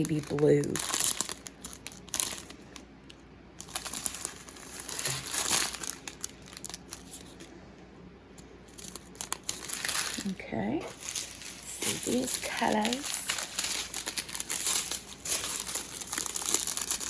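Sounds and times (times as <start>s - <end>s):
plastic bags crinkling: 0.0s - 7.6s, 8.4s - 17.0s.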